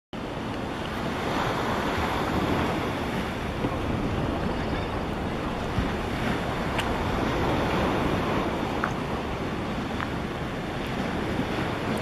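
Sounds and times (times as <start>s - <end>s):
wind buffeting microphone: 0.2s - 12.0s.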